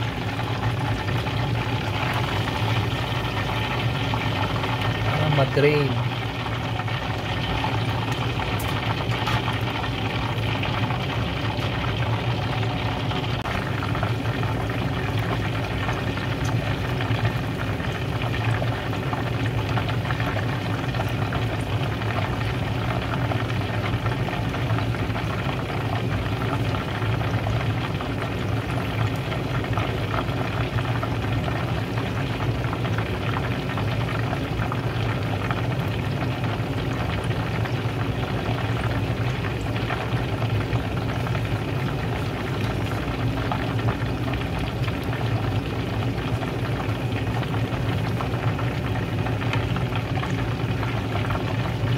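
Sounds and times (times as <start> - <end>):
oil sizzling and bubbling: 0.0 - 51.9.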